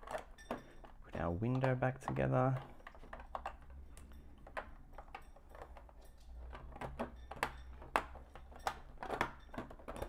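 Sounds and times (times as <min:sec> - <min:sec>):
plastic bricks clicking: 0:00.0 - 0:10.0.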